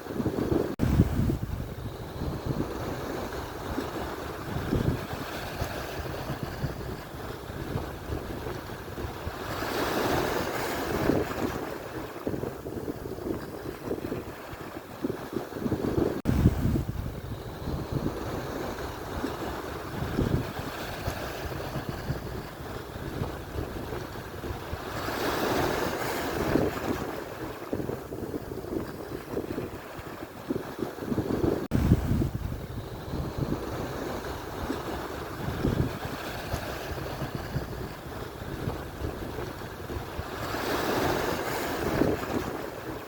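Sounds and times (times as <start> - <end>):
surf breaking on shore: 0.0 - 43.0
wind rumble on microphone: 0.0 - 43.0.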